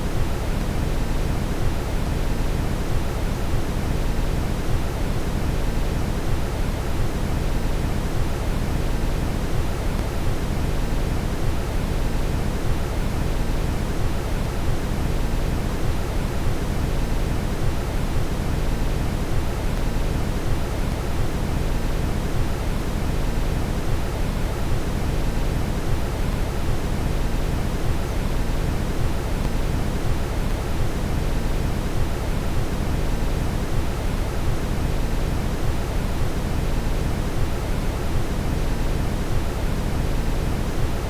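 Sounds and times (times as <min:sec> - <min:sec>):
brown noise hiss: 0:00.0 - 0:41.0.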